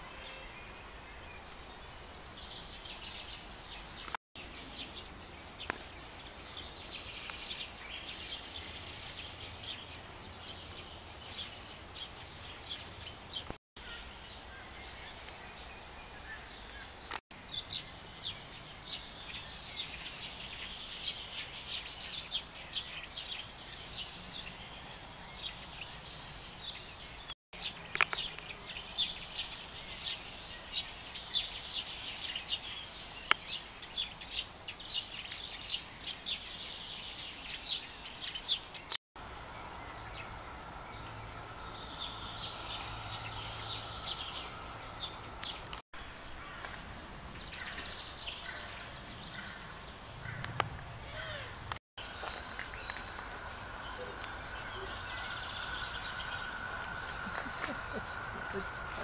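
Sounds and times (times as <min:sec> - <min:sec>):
birds chirping: 0:00.0 - 0:59.0
outdoor background noise: 0:00.0 - 0:59.0.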